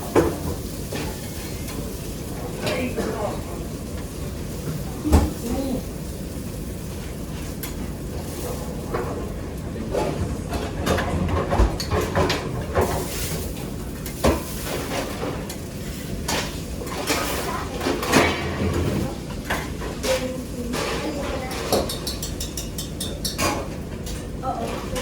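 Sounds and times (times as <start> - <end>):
pots and pans clattering: 0.0 - 5.8, 7.4 - 25.0
steady background noise: 0.0 - 25.0.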